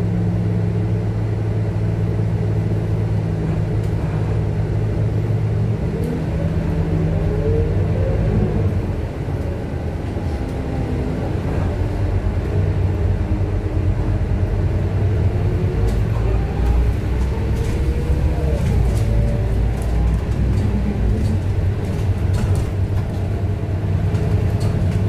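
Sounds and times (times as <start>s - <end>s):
diesel bus engine rumble: 0.0s - 25.0s.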